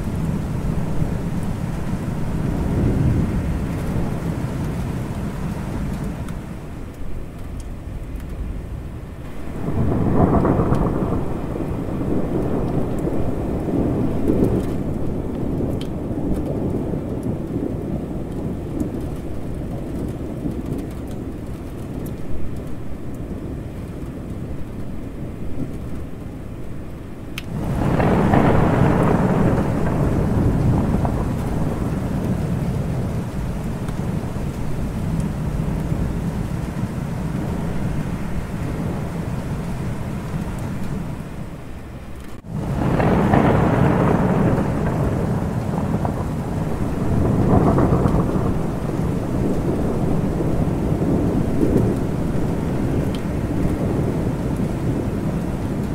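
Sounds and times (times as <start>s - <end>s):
rolling thunder: 0.0s - 6.7s, 8.4s - 24.8s, 27.5s - 55.9s
steady rain: 0.0s - 55.9s.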